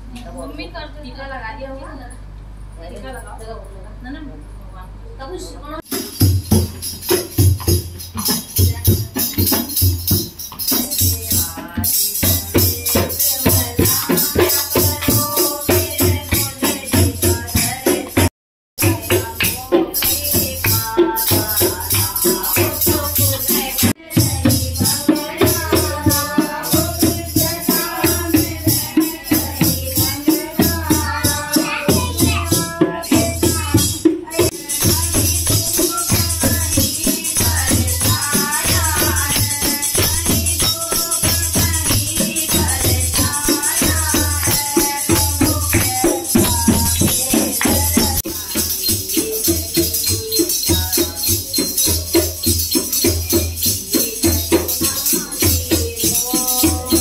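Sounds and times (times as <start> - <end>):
hand drum beating: 5.8 - 57.0
jingling percussion: 5.8 - 57.0
women singing devotional song: 5.9 - 57.0.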